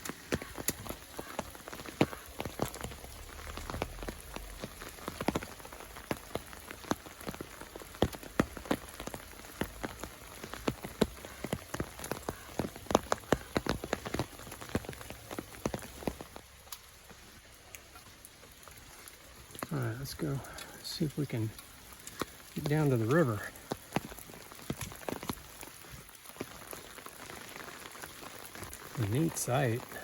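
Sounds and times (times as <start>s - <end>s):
rain hiss: 0.0s - 30.0s
raindrops ticking: 0.0s - 30.0s.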